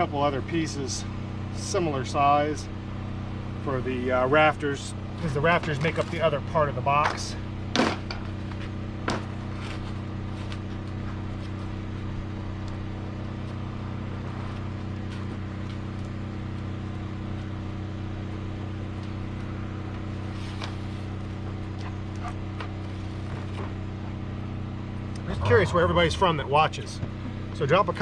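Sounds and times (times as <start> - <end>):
engine humming steadily: 0.0 - 28.0.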